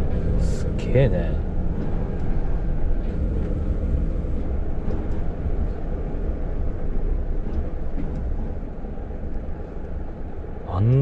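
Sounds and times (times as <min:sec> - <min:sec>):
road noise: 0:00.0 - 0:11.0
truck diesel engine rumble: 0:00.0 - 0:11.0.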